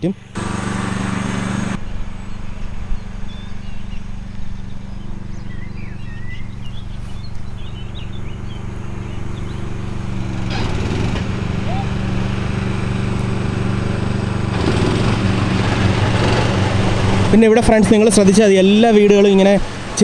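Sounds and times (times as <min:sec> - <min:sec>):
riding lawn mower engine humming: 0:00.0 - 0:20.0
small birds chirping: 0:00.0 - 0:20.0.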